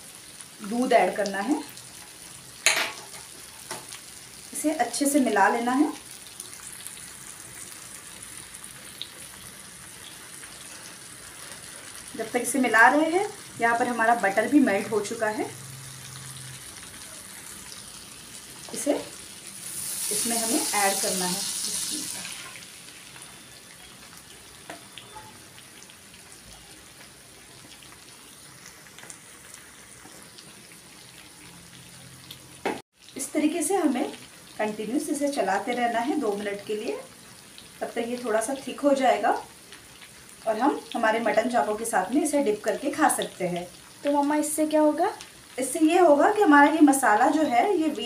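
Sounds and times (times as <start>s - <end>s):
butter sizzling in a frying pan: 0.0s - 48.0s.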